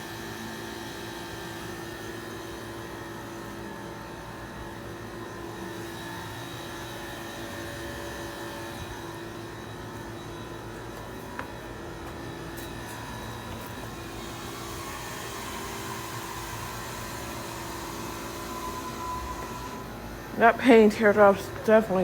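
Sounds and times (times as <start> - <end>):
heat pump humming: 0.0 - 22.0.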